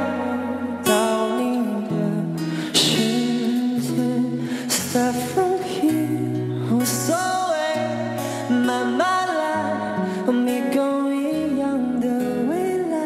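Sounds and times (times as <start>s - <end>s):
acoustic guitar: 0.0s - 13.0s
man singing pop song: 0.0s - 13.0s.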